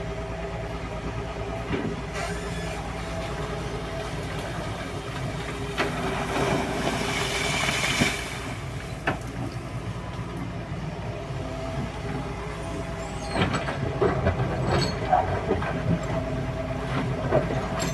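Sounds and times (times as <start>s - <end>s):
excavator engine running: 0.0s - 17.9s.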